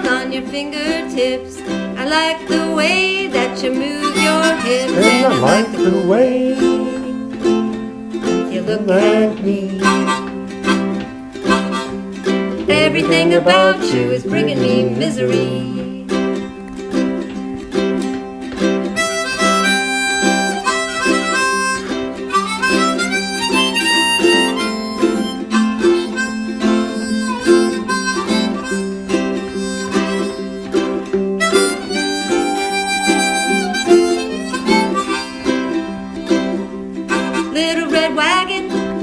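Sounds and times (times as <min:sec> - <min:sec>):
harmonica solo: 0:00.0 - 0:39.0
strummed stringed accompaniment: 0:00.0 - 0:39.0.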